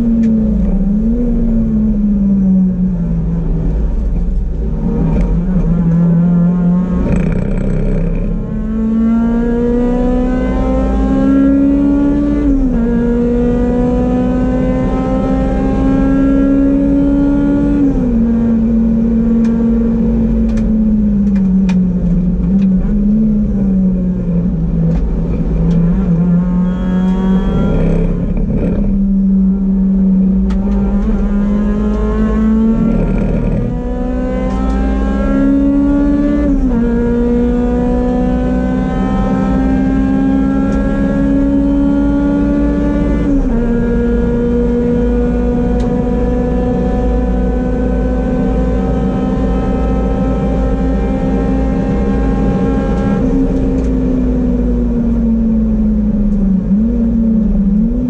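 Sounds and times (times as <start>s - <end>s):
car engine at full throttle: 0.0s - 58.0s.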